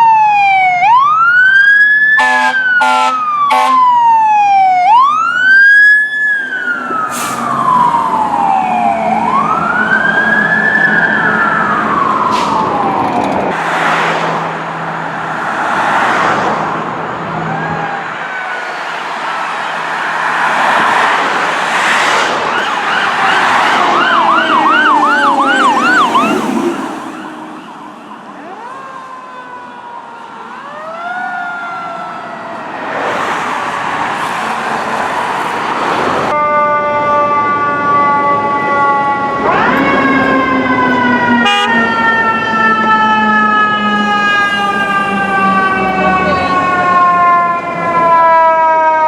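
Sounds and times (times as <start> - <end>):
deep many-toned siren: 0.0 - 13.6, 16.0 - 21.8, 22.4 - 33.0, 35.6 - 49.0
fire engine sirens wailing: 0.0 - 49.0
passing vehicle: 4.5 - 49.0.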